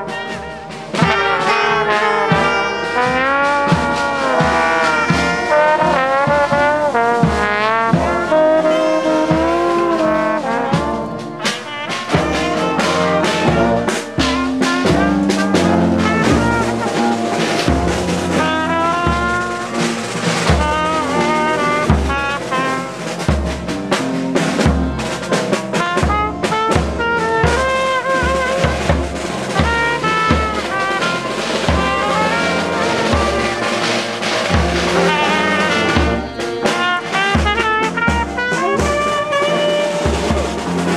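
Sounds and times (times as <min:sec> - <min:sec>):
bass drum beat: 0:00.0 - 0:40.9
trombones and trumpets playing: 0:00.0 - 0:40.9.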